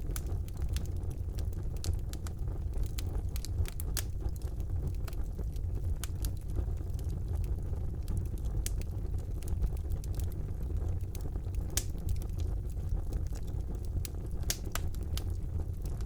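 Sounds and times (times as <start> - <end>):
fire crackling and popping: 0.0 - 16.0
fire flames rumbling: 0.0 - 16.0.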